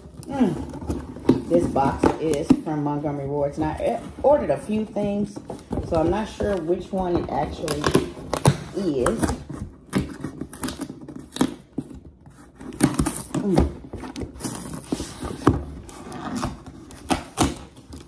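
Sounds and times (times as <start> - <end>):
cardboard and tape tearing: 0.0 - 18.0.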